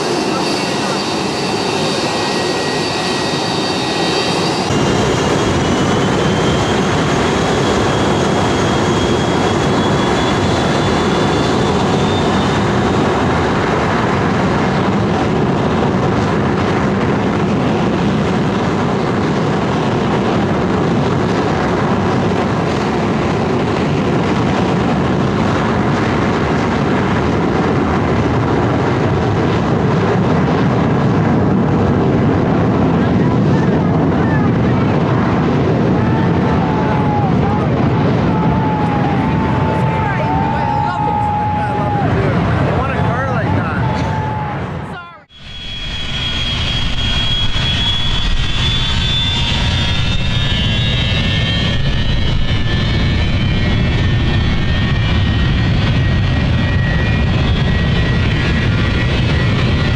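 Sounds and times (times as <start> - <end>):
jet engines roaring with high whine: 0.0 - 59.9.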